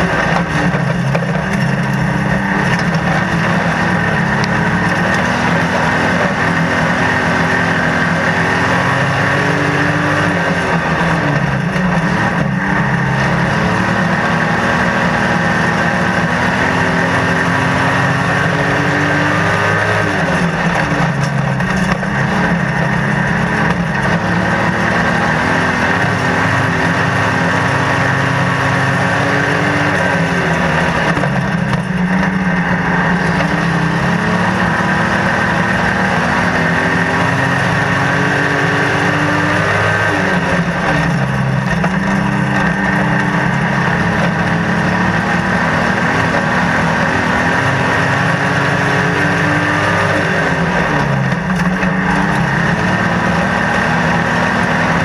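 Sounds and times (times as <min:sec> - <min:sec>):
racing car engine running hard: 0:00.0 - 0:55.0.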